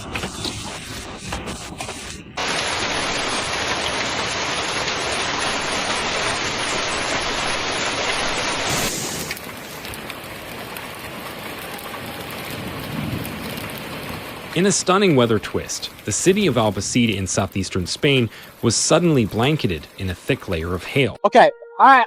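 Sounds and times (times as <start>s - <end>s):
heavy rain pelting down: 0.0s - 21.2s.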